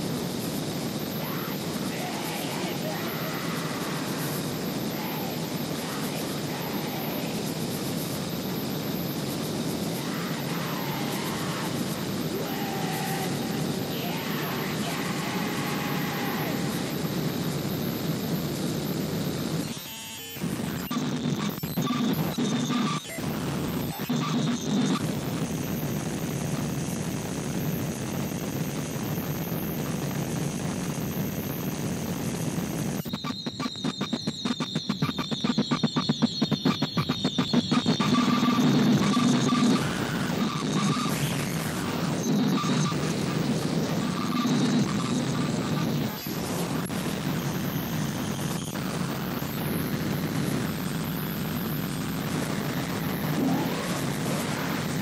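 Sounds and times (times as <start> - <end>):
distorted noise music: 0.0 - 55.0
thin high whine: 0.0 - 55.0.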